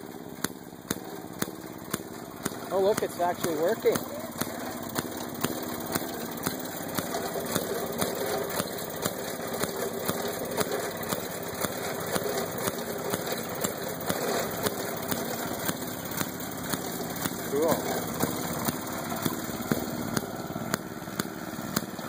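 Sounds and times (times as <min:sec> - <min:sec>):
regular mechanical clacks: 0:00.0 - 0:22.0
washing machine churning clothes: 0:00.0 - 0:22.0.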